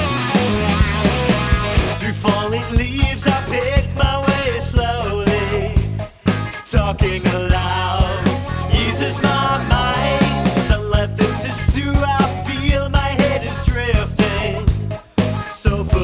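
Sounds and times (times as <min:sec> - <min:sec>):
rock band playing: 0:00.0 - 0:16.0
person singing: 0:01.8 - 0:05.9, 0:06.5 - 0:16.0.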